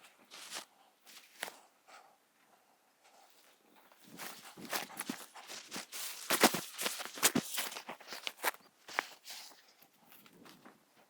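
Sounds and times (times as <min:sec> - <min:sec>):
faint outdoor hiss: 0:00.0 - 0:11.0
soft rustle: 0:00.0 - 0:11.0.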